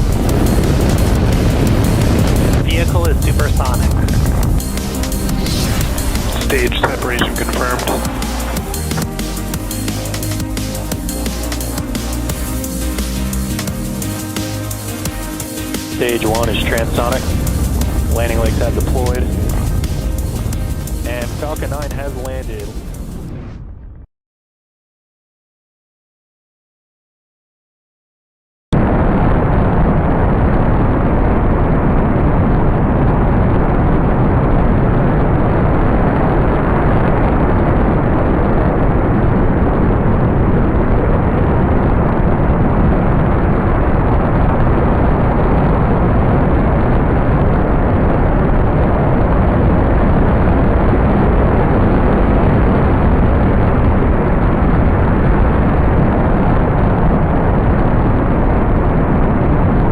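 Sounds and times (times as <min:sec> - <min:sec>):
rocket engine roaring: 0:00.0 - 0:11.5, 0:13.5 - 0:24.0, 0:28.8 - 0:59.8.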